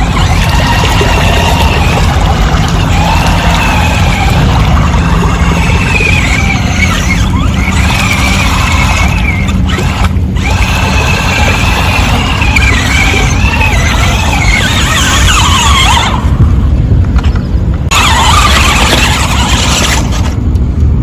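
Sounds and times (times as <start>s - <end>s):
electric motor whine: 0.0s - 16.7s, 17.9s - 20.5s
churning water rumble: 0.0s - 21.0s.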